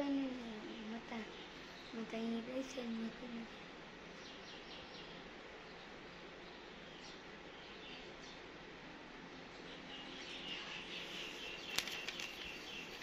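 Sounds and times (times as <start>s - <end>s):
outdoor background: 0.0s - 13.0s
small bird chirping: 0.6s - 8.5s, 9.3s - 13.0s.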